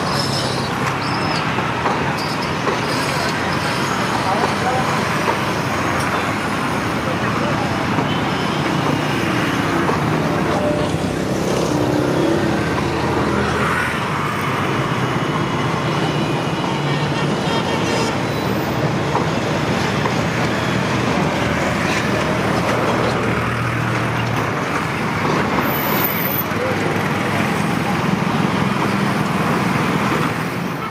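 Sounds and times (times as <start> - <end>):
road traffic rumble: 0.0 - 30.9.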